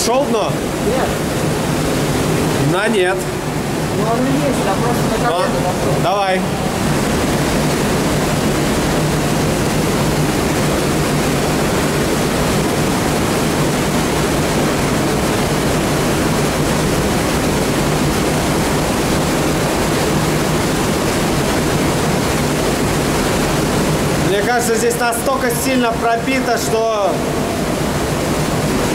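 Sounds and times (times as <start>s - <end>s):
constant low hum: 0.0s - 28.9s
rushing water in a tunnel: 0.0s - 28.9s.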